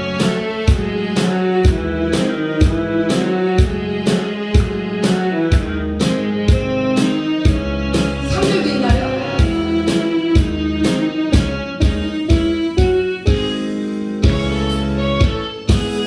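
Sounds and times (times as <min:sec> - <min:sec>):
keyboard and guitar backing track: 0:00.0 - 0:16.0.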